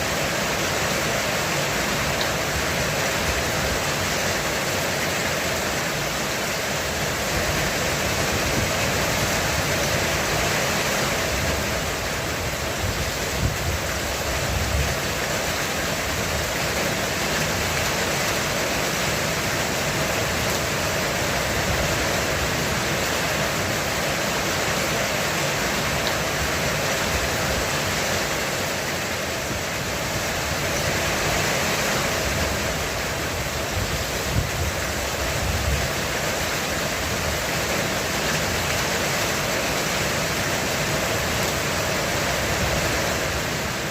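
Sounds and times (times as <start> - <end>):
heavy rain on a roof: 0.0 - 43.9.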